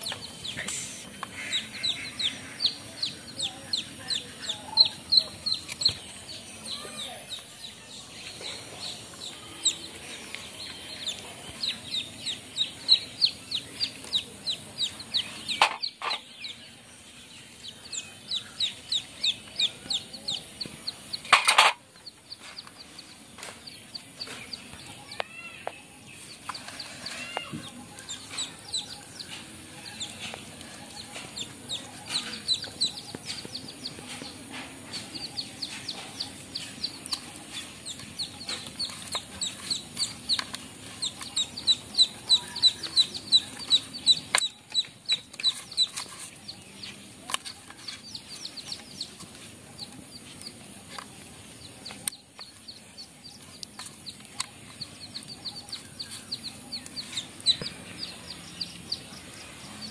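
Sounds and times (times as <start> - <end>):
chickens chirping: 0.0 - 59.9.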